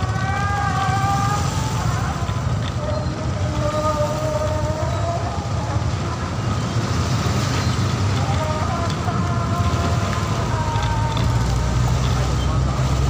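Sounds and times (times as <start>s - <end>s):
motorbike engines running: 0.0s - 13.0s.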